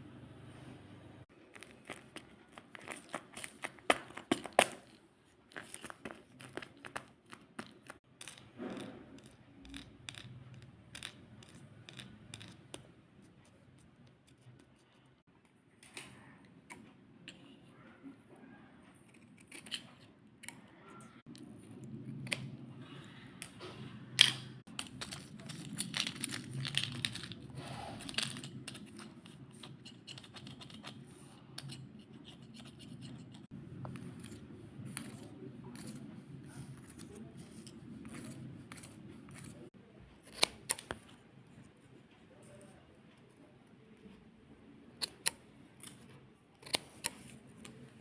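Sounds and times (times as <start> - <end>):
scratchy handling noises: 1.2 - 48.0.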